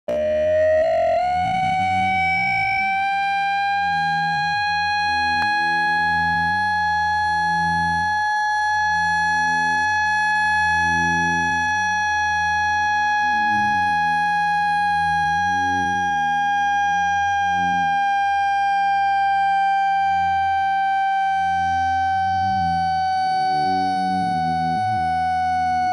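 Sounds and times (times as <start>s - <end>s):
low hum: 0.1s - 25.9s
steady tone with overtones: 0.1s - 25.9s.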